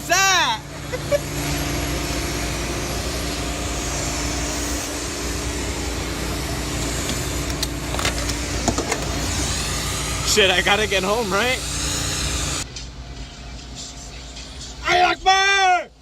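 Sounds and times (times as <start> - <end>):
car engine running: 0.4 - 15.1.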